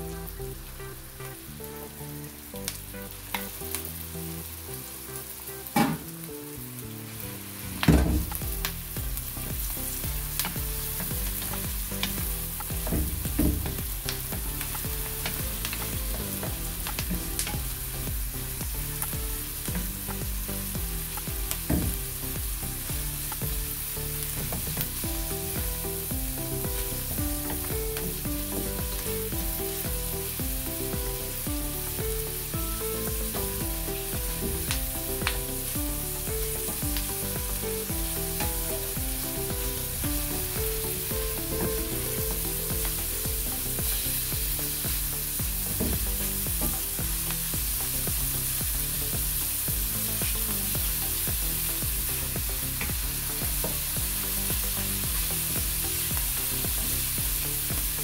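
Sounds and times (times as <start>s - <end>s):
meat and onions sizzling in a wok: 0.0s - 58.0s.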